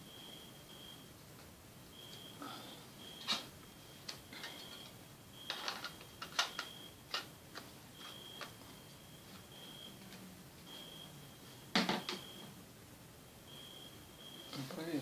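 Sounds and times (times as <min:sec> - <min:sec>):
faint high steady tone: 0:00.0 - 0:07.2, 0:07.9 - 0:15.0.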